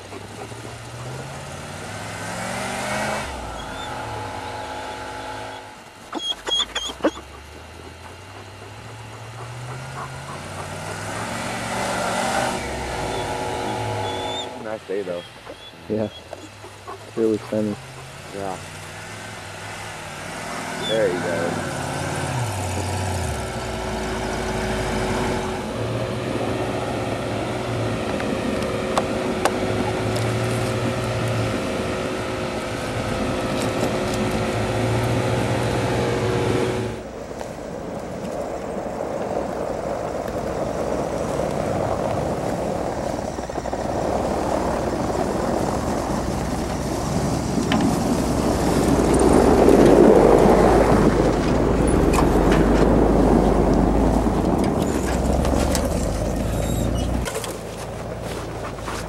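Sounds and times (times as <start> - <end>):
off-road engine revving: 0.0 - 59.0
steady whine: 0.0 - 59.0.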